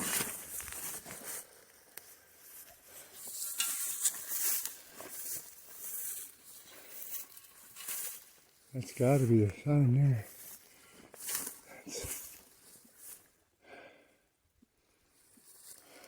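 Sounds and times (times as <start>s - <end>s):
footsteps through brush: 0.0s - 13.4s.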